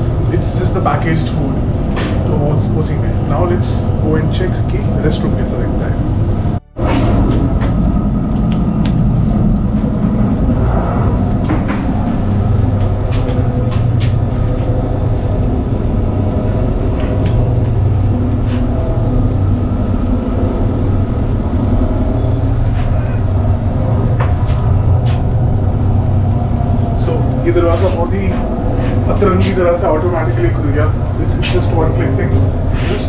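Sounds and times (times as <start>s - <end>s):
train clicks and rattles: 0.0s - 33.0s
train rumbling: 0.0s - 33.0s.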